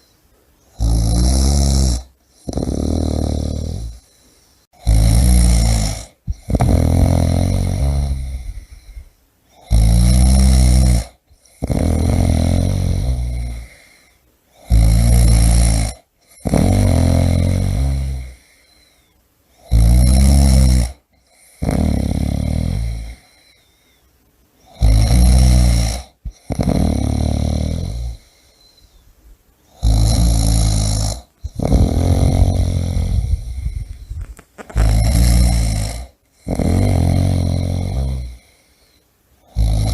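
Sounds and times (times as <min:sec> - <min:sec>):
person snoring loudly: 0:00.7 - 0:04.0, 0:04.8 - 0:14.0, 0:14.6 - 0:18.7, 0:19.6 - 0:23.5, 0:24.7 - 0:28.4, 0:29.7 - 0:38.6, 0:39.4 - 0:39.9.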